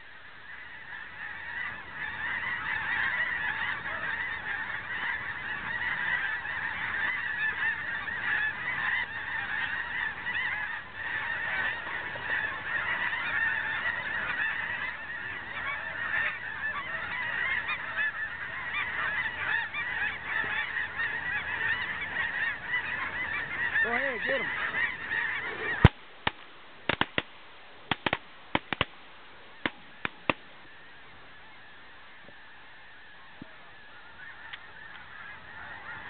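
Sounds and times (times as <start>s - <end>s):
flock of geese honking: 0.0s - 36.0s.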